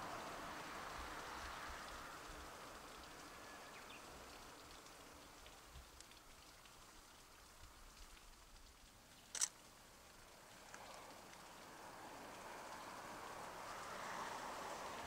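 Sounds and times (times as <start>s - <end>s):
low even hiss: 0.0s - 15.0s.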